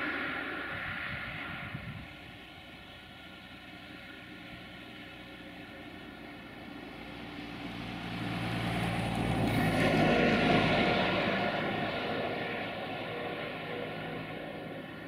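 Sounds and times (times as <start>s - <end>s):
engine passing by: 0.0s - 15.0s.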